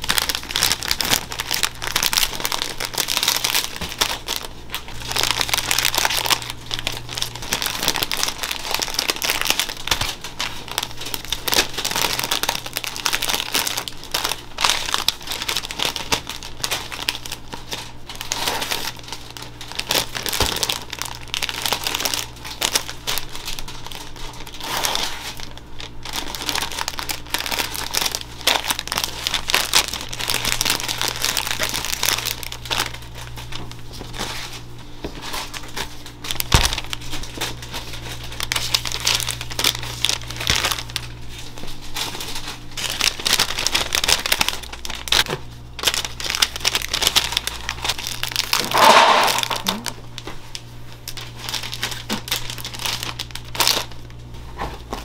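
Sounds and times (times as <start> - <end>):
plastic bags crinkling: 0.0 - 55.0.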